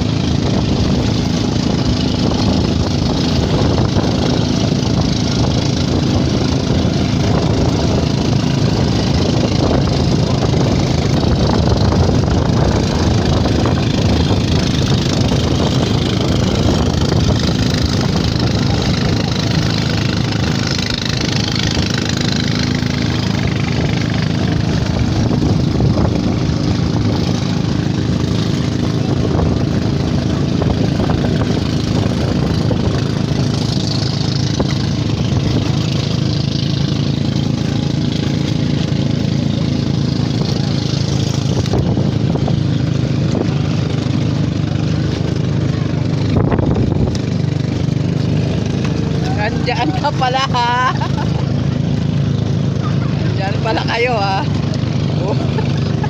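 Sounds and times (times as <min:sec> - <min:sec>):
boat engine running: 0:00.0 - 0:56.0
water rushing along hull: 0:00.0 - 0:56.0.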